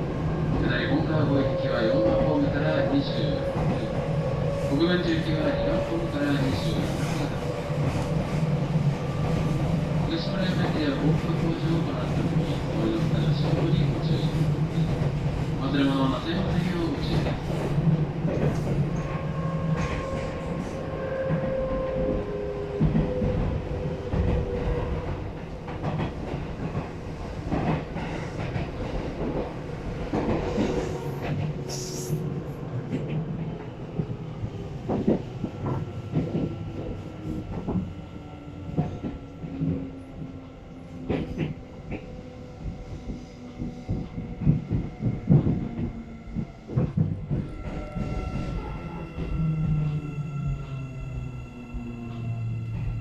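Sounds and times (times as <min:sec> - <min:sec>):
train interior rumble: 0:00.0 - 0:53.0.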